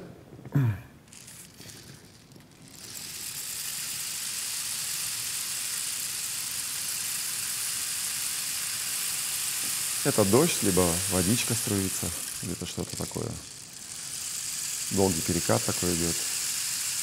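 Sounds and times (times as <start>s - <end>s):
rainstick seeds trickling: 1.1s - 17.0s.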